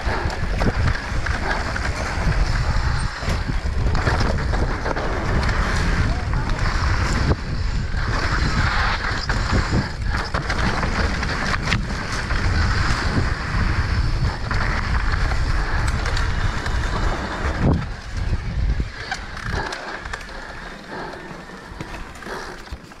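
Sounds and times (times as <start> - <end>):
wind rushing over microphone: 0.0 - 22.7
bike clicks and rattles: 0.0 - 23.0
tyres rolling on dirt: 0.0 - 23.0.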